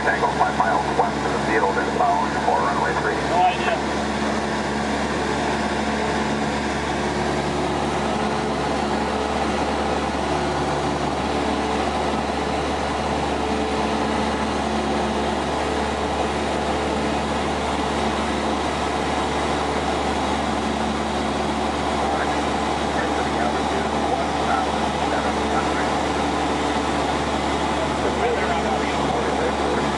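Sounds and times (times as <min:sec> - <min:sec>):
aircraft engine drone in cabin: 0:00.0 - 0:29.9.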